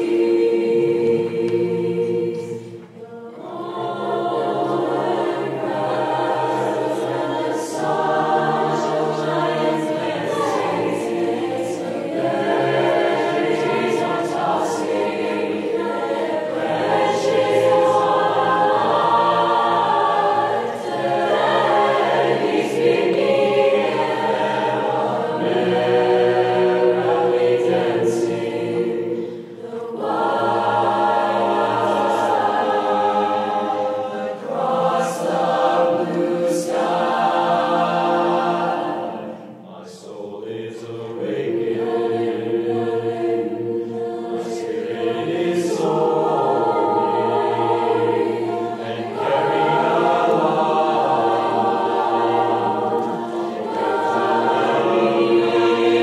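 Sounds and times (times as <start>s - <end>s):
mixed choir singing unaccompanied: 0.0s - 56.0s.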